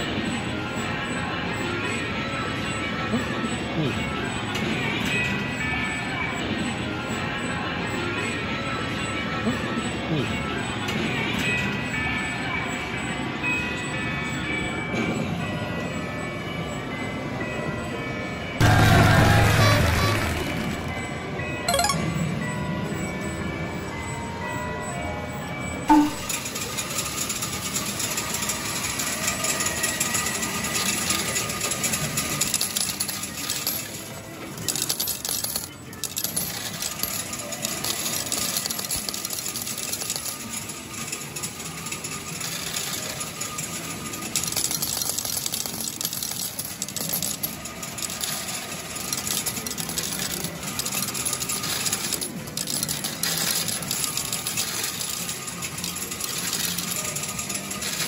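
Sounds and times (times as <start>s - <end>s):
music: 0.0s - 58.0s.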